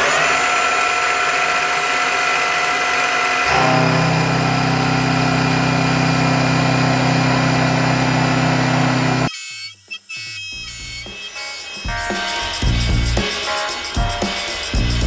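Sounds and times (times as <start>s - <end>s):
milling machine cutting steel: 0.0s - 12.6s.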